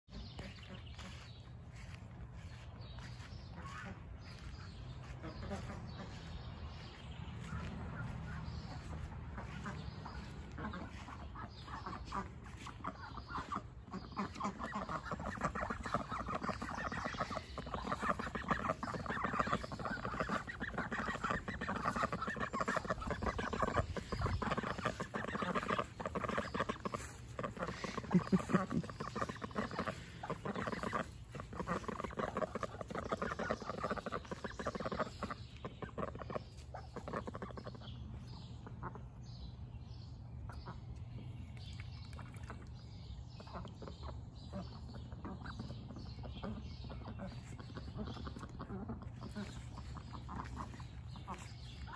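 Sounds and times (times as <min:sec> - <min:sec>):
ducks quacking: 0:00.1 - 0:39.4, 0:42.1 - 0:51.9.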